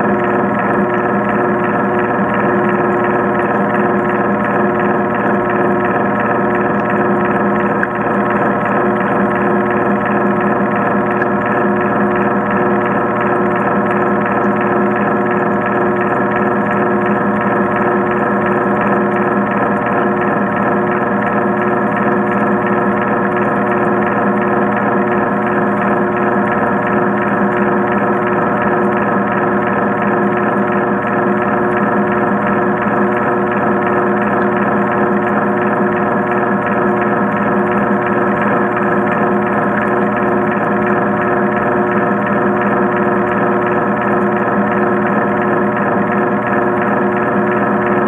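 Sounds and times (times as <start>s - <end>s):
underwater machine hum: 0.0s - 48.0s.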